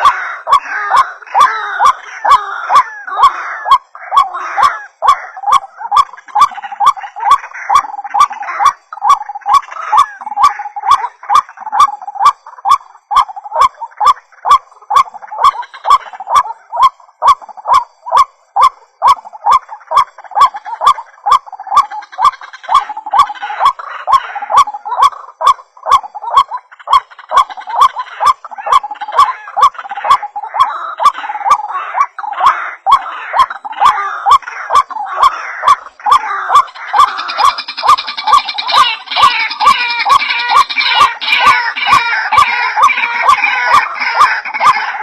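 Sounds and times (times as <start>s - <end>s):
waterhens croaking calls: 0.0s - 45.0s.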